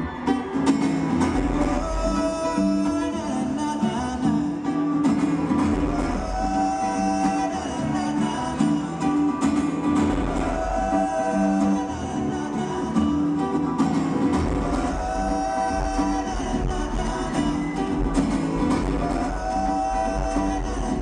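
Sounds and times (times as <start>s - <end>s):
acoustic guitar over sound system: 0.0s - 21.0s.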